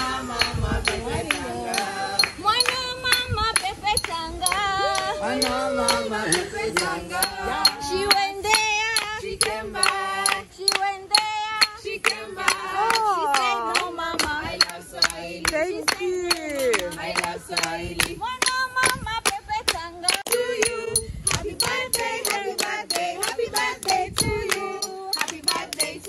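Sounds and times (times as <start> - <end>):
voices singing together: 0.0 - 26.0
hand-clapping: 0.4 - 26.0.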